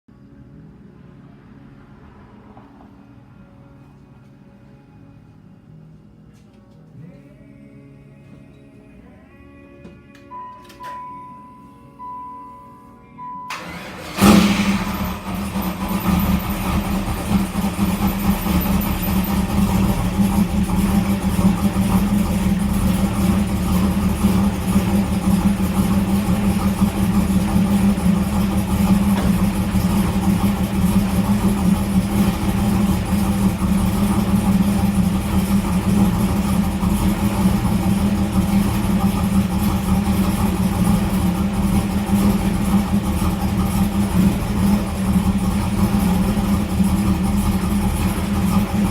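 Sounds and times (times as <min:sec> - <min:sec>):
car engine starting and idling: 0:00.2 - 0:05.7, 0:13.2 - 0:48.9.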